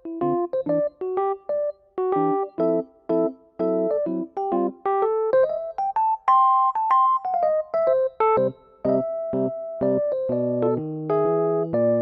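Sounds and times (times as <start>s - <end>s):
electric piano melody: 0.0s - 12.0s.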